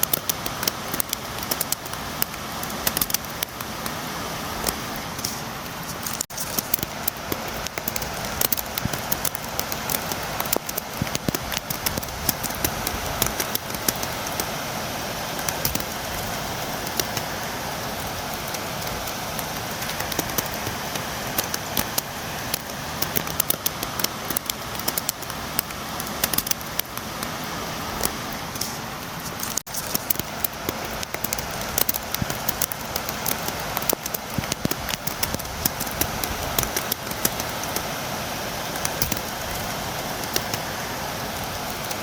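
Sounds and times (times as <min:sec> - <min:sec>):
rain pattering on a window: 0:00.0 - 0:42.0.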